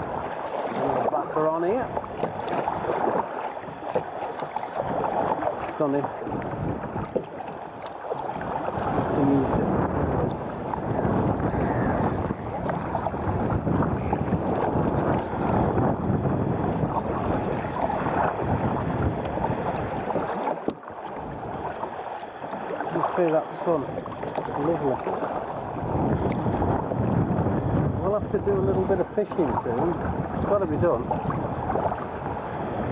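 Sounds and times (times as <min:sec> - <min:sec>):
water splashing and lapping: 0:00.0 - 0:32.9
wind buffeting microphone: 0:00.0 - 0:32.9.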